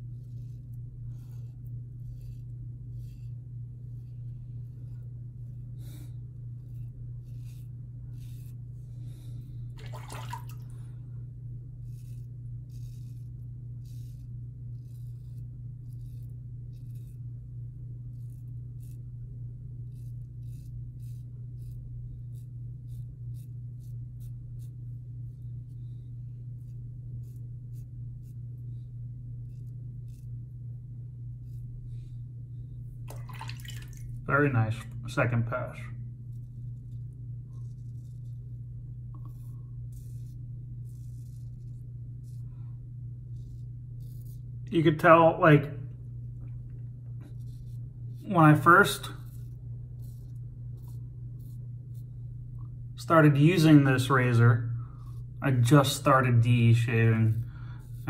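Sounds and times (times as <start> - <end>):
razor scraping stubble: 0.0 - 9.8, 10.7 - 32.3, 33.9 - 58.0
steady low hum: 0.0 - 58.0.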